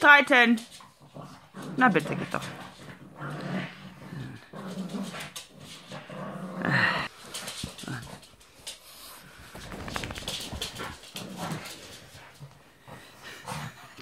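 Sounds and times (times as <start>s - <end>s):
dogs growling and grunting: 0.9s - 8.4s, 9.3s - 14.0s.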